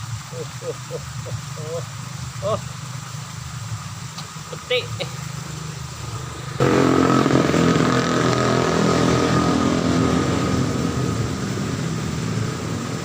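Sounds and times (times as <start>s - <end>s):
motor engine running loudly: 0.0s - 13.0s.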